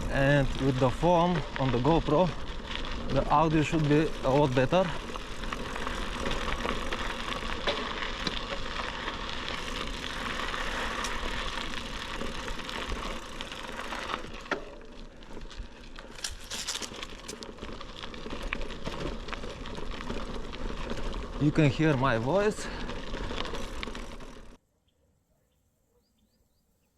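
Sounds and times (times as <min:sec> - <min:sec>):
bicycle tyre noise: 0:00.0 - 0:24.6
scattered clicks and crackles: 0:00.0 - 0:24.6.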